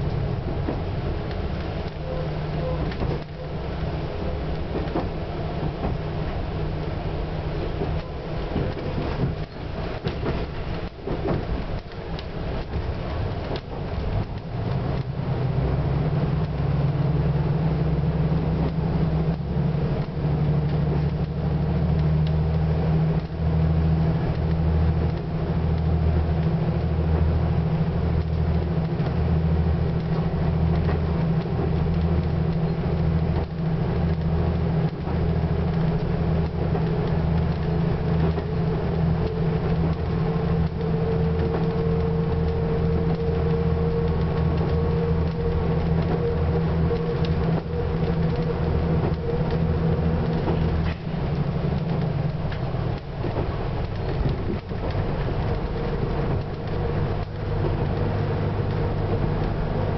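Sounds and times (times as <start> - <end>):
train engine drone: 0.0 - 59.9.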